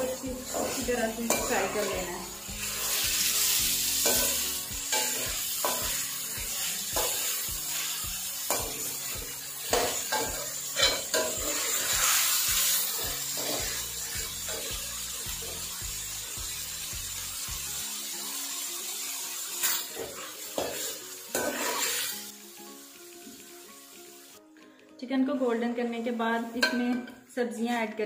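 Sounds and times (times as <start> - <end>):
chicken sizzling in oil: 0.0 - 24.4.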